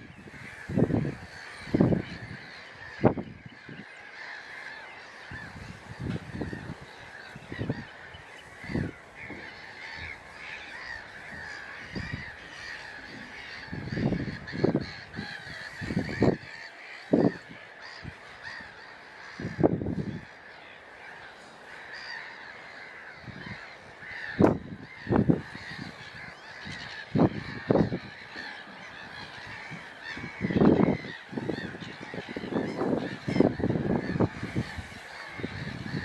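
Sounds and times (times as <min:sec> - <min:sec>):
low honking bird calls: 0:00.0 - 0:36.0
waterbirds chattering: 0:00.0 - 0:36.0.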